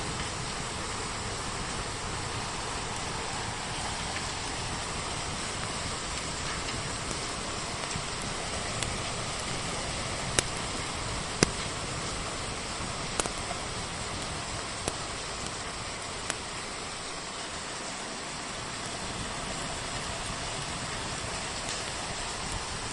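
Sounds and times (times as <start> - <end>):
wood fire crackling and popping: 0.0 - 17.8, 19.2 - 22.9
rain hissing: 0.0 - 22.9.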